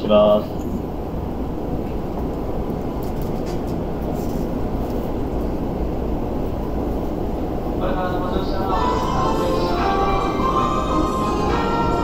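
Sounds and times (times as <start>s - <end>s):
train interior rumble and hum: 0.0s - 12.0s.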